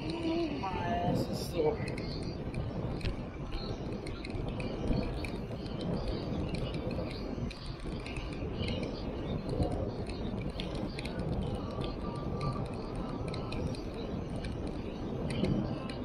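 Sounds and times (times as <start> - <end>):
birds chirping faintly: 0.0 - 16.0
wind rushing over microphone: 0.0 - 16.0.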